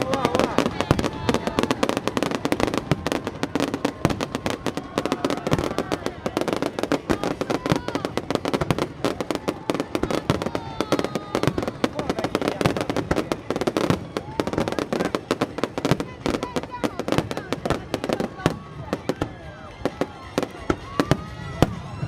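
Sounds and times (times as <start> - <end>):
fireworks crackling: 0.0 - 22.0
people's voices: 0.0 - 22.0.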